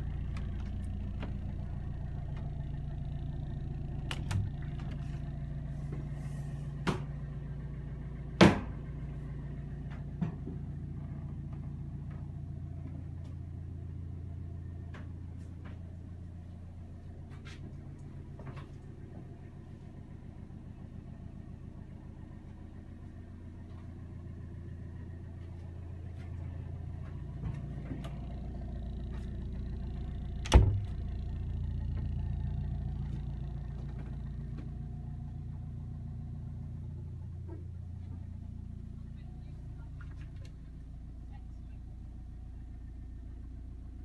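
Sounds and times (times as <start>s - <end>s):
boat engine throbbing: 0.0s - 17.0s, 24.4s - 42.8s.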